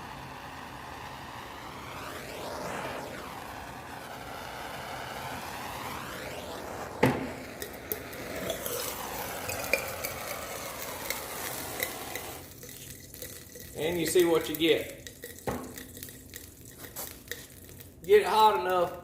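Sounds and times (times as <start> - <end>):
burning fuel sizzling and crackling: 0.0 - 19.0
steady hiss: 0.0 - 19.0.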